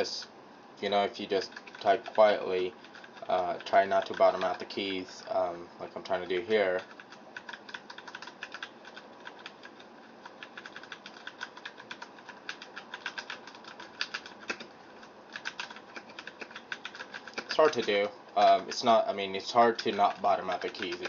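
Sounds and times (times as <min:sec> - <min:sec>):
fast typing on mechanical keyboard: 0:01.3 - 0:05.2, 0:06.2 - 0:21.0.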